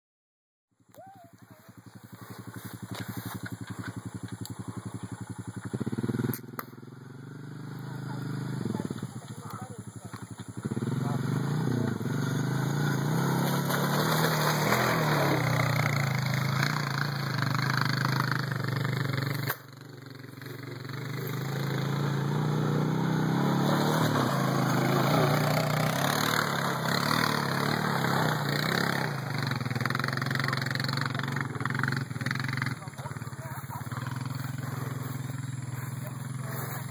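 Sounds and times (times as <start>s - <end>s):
quad bike engine running: 0.8s - 36.9s.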